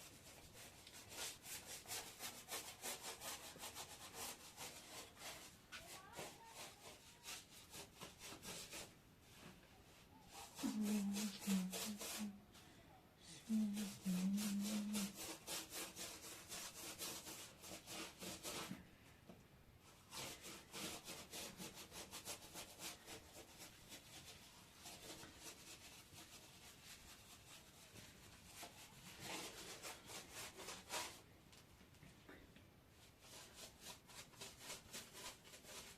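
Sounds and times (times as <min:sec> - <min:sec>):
rapid hand scraping strokes: 0:00.0 - 0:09.4, 0:10.3 - 0:12.4, 0:13.4 - 0:18.8, 0:19.9 - 0:31.2, 0:33.0 - 0:35.9.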